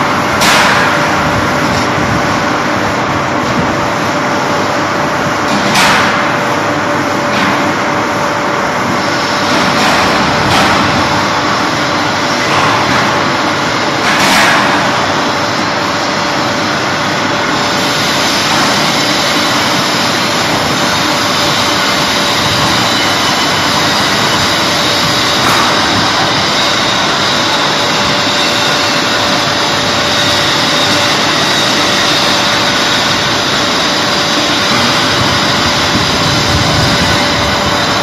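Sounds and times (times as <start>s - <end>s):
machinery humming: 0.0s - 38.0s.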